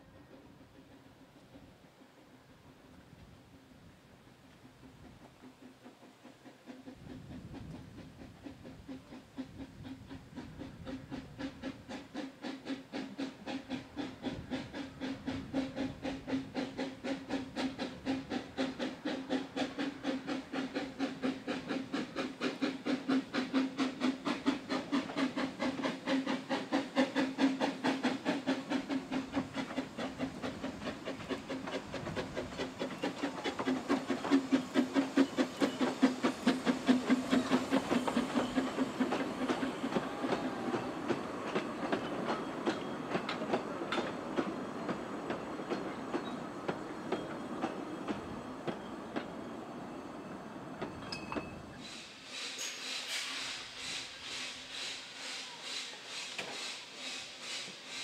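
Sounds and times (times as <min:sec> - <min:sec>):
steam locomotive chuffing: 0:00.0 - 0:58.0
train wheels clicking over rail joints: 0:00.0 - 0:58.0.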